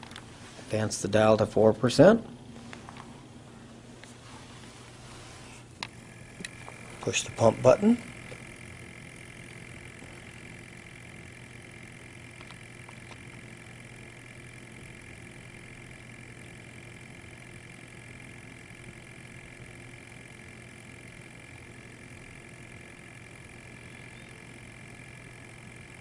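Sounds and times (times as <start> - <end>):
faint high whine: 0.0 - 26.0
small pump humming: 0.0 - 26.0.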